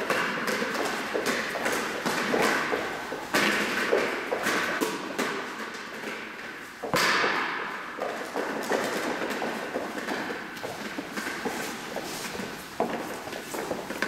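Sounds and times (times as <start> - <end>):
running footsteps: 0.0 - 14.0.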